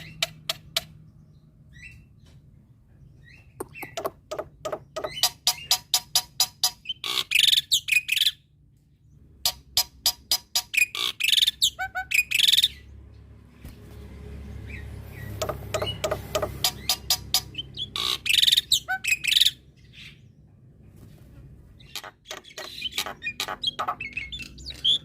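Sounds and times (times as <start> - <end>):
bird singing with clicks and rasps: 0.0 - 13.3, 14.7 - 20.5, 21.8 - 25.0.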